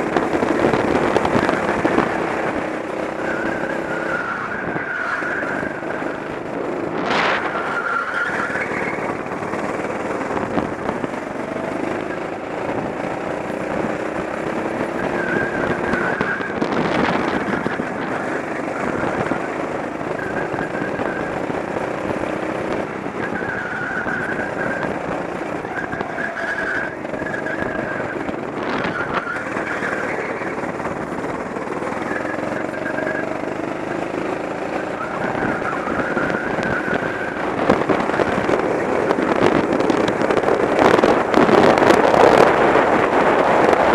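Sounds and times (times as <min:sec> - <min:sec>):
go-kart engine revving: 0:00.0 - 0:43.9
tyres squealing: 0:00.0 - 0:43.9.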